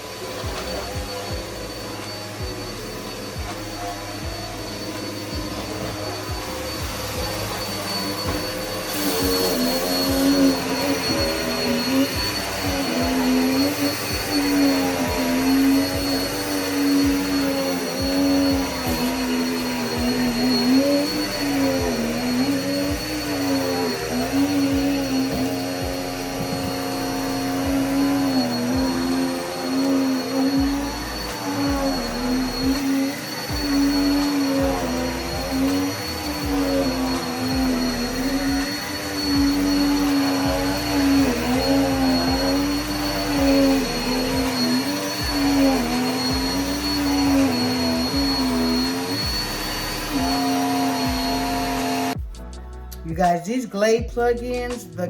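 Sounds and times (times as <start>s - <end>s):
vacuum cleaner whining: 0.0s - 52.3s.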